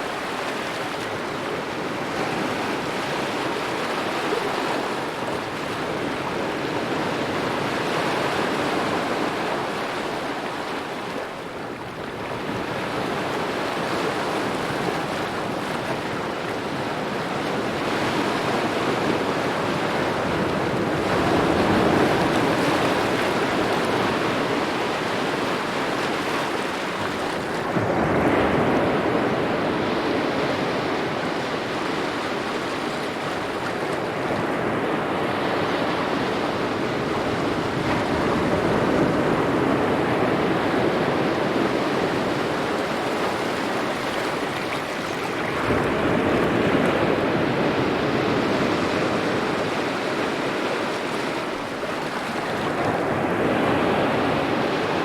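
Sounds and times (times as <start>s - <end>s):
small waves lapping at shore: 0.0s - 55.0s.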